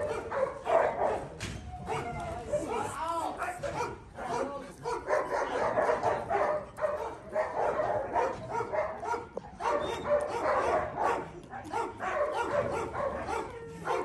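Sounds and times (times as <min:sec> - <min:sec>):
dogs barking and yelping: 0:00.0 - 0:03.0, 0:03.7 - 0:14.0.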